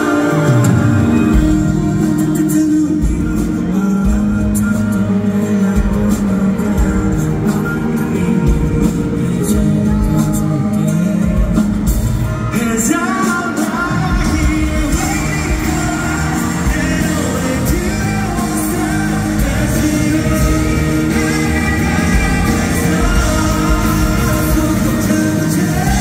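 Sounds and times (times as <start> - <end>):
group singing into microphones: 0.0 - 26.0
pop backing track: 0.0 - 26.0.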